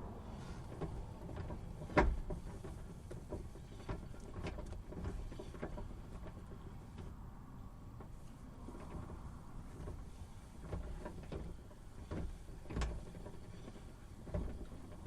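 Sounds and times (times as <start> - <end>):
low steady rumble: 0.0 - 15.0
rear differential clunking: 0.0 - 15.0.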